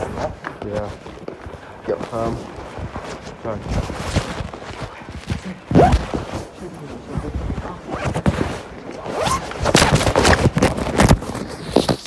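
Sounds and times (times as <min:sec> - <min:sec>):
fabric rubbing on microphone: 0:00.0 - 0:12.0.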